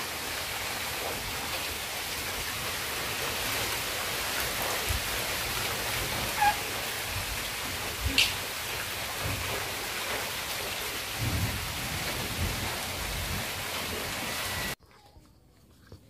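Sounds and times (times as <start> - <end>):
heavy rain hiss: 0.0 - 14.8.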